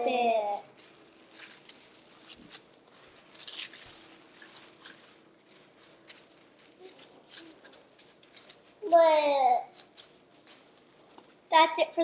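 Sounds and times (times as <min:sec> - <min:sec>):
plastic cling wrap crinkling: 0:00.0 - 0:12.0.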